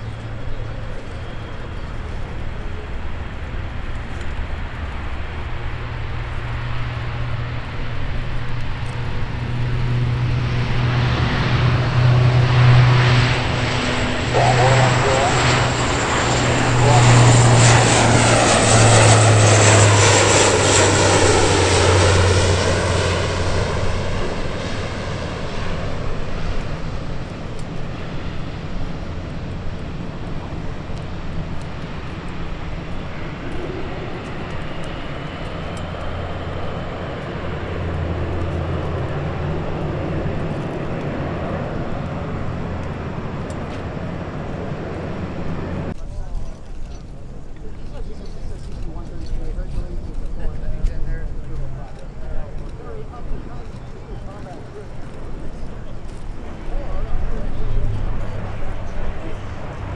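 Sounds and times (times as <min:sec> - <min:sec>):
turboprop aircraft drone: 0:00.0 - 0:59.9.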